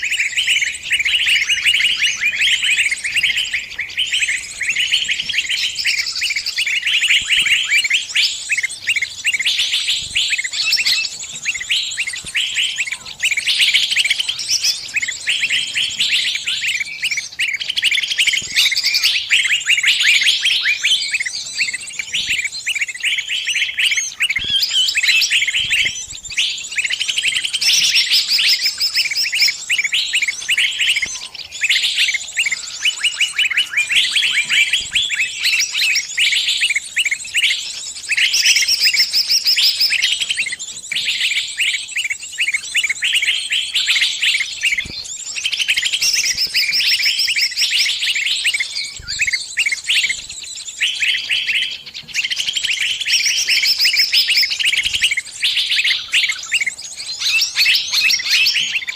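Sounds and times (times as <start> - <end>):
small bird distress chirps: 0.0 - 58.9.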